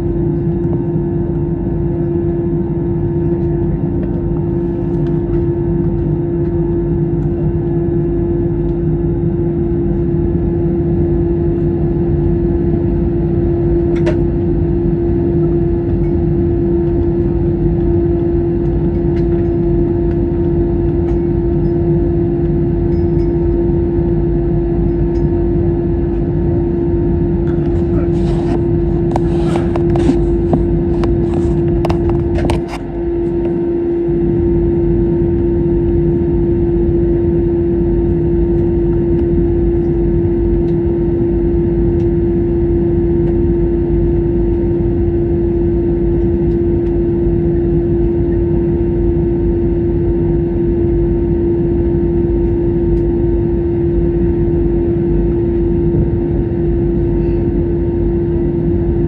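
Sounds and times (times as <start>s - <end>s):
jet engine cabin drone: 0.0s - 59.0s.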